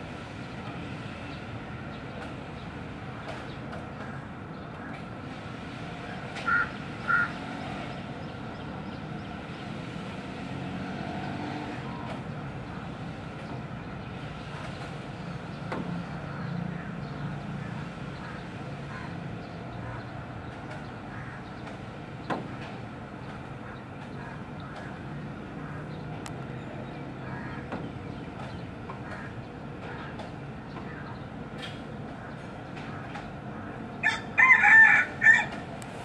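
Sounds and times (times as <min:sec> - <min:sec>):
distant traffic hum: 0:00.0 - 0:36.0.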